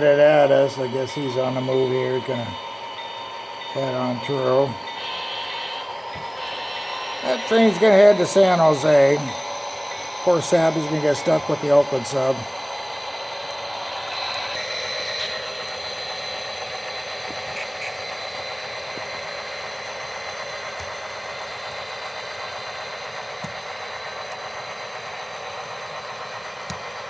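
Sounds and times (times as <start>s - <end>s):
model trains whirring: 0.0s - 27.0s.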